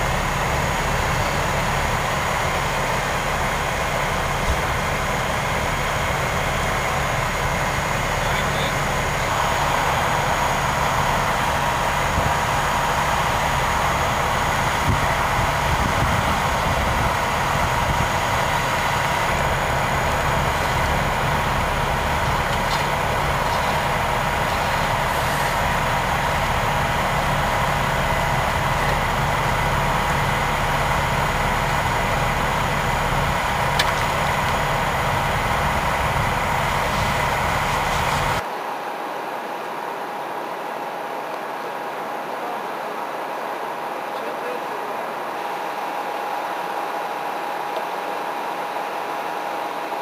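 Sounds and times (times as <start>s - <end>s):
heavy engines idling: 0.0s - 38.5s, 39.8s - 50.0s
steady high whine: 0.0s - 50.0s.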